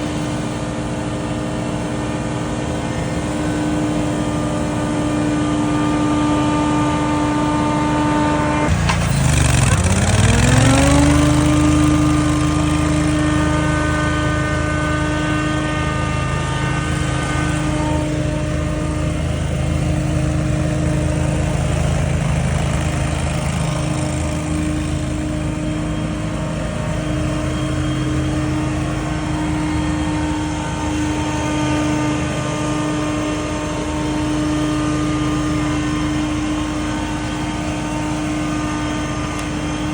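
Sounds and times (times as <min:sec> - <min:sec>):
leaf blower whining: 0:00.0 - 0:39.9.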